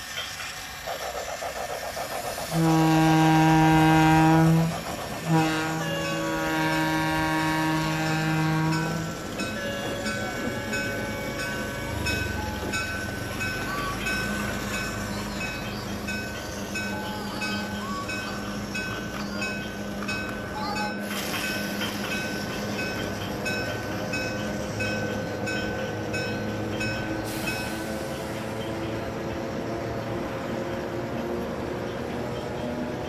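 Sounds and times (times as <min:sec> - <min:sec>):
toy train running hum: 0:00.0 - 0:28.9.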